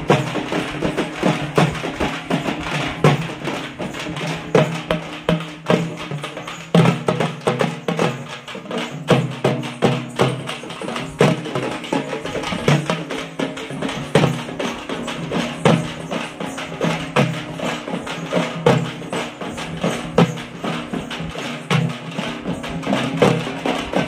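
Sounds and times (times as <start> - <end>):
frame drums beaten in fast rhythm: 0.0 - 24.0.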